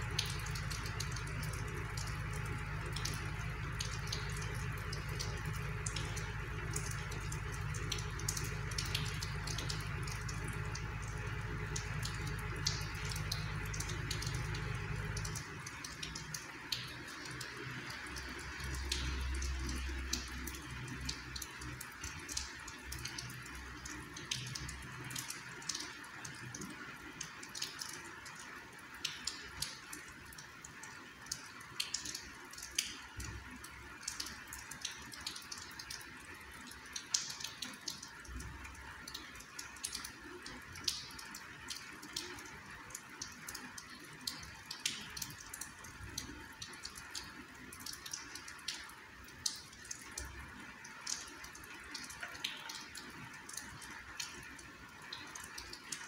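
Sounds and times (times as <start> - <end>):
drops ticking and dripping: 0.0 - 56.0
light rain falling: 0.0 - 56.0.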